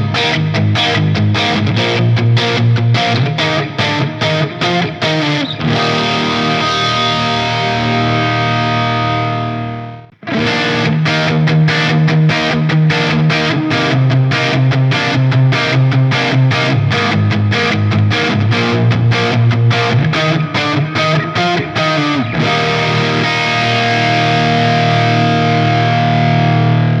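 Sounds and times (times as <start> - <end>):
distorted electric guitar riffs: 0.0 - 27.0.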